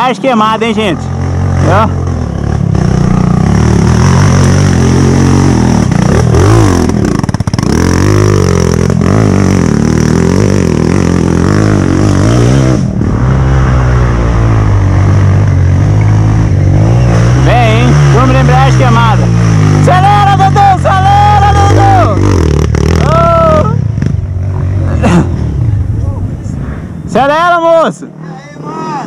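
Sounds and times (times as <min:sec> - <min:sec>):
dirt bike engine revving: 0:00.0 - 0:26.1.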